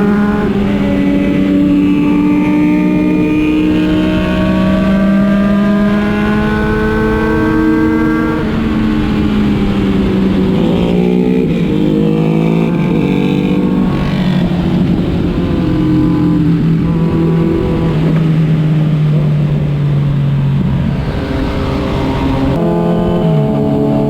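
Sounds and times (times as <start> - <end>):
motorcycle engine running: 0.0 - 24.0
wind noise: 0.0 - 24.0.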